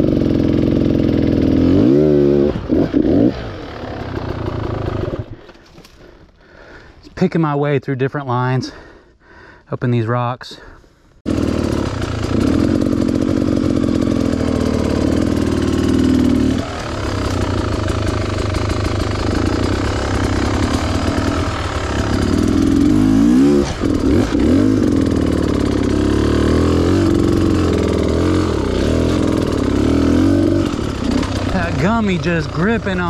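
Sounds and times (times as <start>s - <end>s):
dirt bike engine revving: 0.0s - 5.4s, 11.3s - 33.0s.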